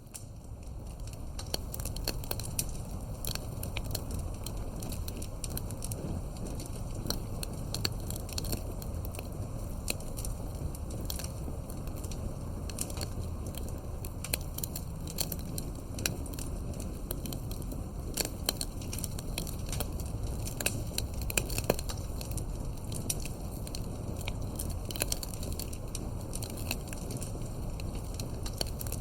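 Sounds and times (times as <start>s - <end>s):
campfire wood crackling: 0.0s - 29.0s
low rumble of burning fire: 0.0s - 29.0s
sharp pops and snaps: 0.0s - 29.0s.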